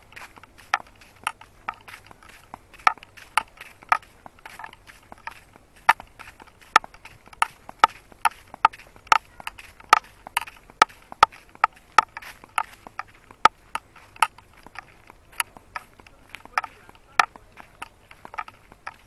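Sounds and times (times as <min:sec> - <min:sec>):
footsteps on a path: 0:00.0 - 0:19.0.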